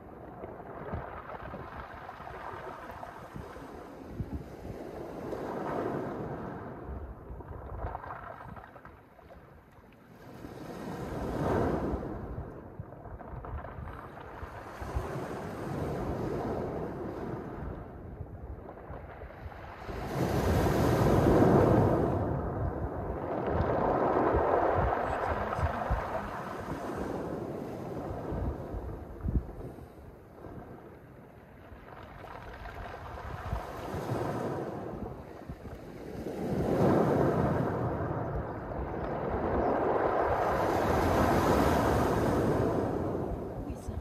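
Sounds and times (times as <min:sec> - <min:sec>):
waves washing over pebble beach: 0:00.0 - 0:07.1, 0:10.2 - 0:12.4, 0:13.4 - 0:17.9, 0:18.7 - 0:30.0, 0:31.7 - 0:44.0.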